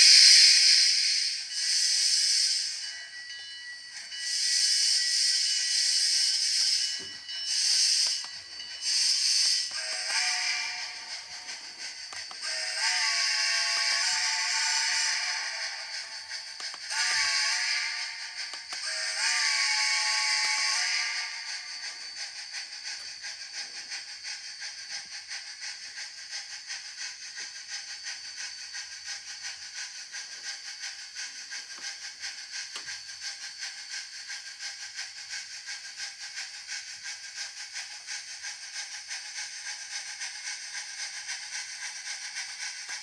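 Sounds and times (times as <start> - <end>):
model steam locomotive chuffing: 0.0 - 43.0.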